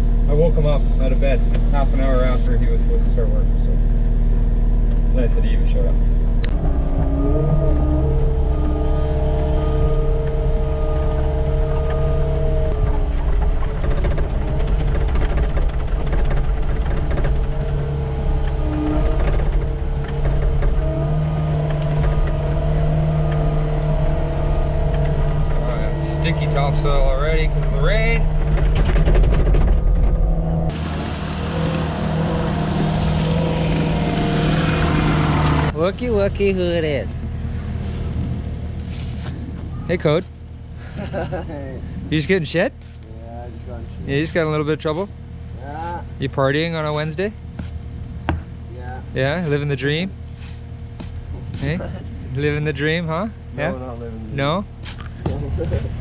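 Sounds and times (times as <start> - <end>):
diesel engine running: 0.0 - 56.0
held whine: 0.0 - 56.0.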